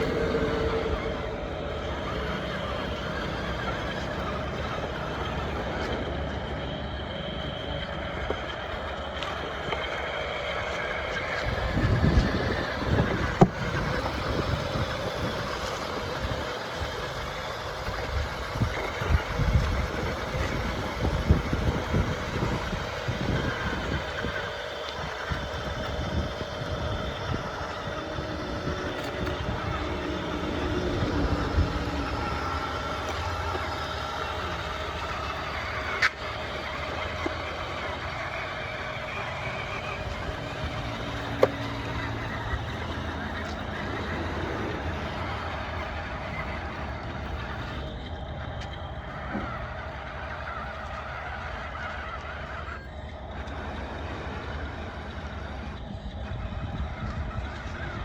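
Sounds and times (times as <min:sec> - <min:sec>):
low rumbles: 0:00.0 - 0:58.0
model vehicle motors droning: 0:00.0 - 0:58.0
toy engine idling: 0:00.0 - 0:58.0.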